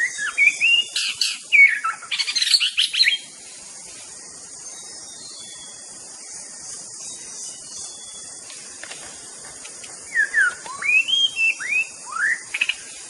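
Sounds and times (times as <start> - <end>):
bird singing: 0.0 - 13.0
steady high hiss: 0.0 - 13.0.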